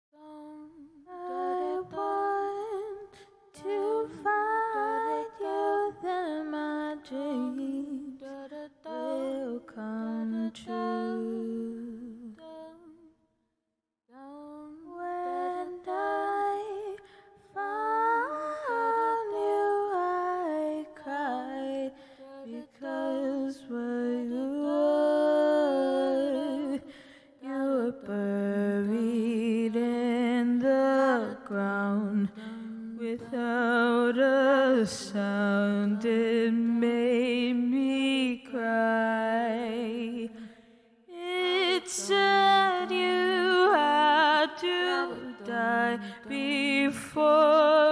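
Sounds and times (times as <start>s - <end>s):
woman singing slow melody: 0.2s - 13.0s, 14.1s - 40.4s, 41.1s - 47.9s.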